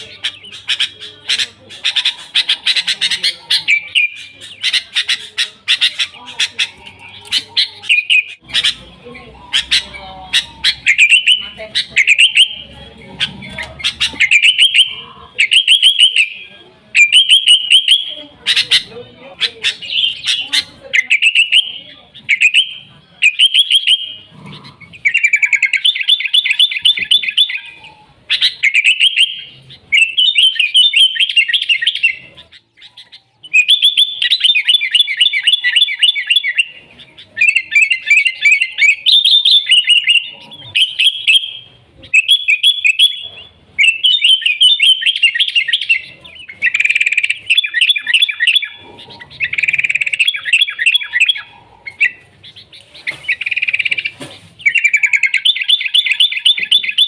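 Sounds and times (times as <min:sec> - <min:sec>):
bird singing chattering warbles: 0:00.0 - 0:57.0.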